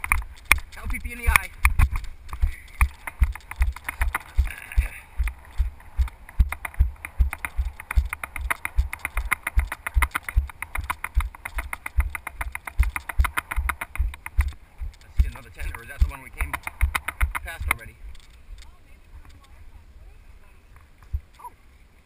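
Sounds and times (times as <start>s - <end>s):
running footsteps on grass: 0.0s - 19.5s.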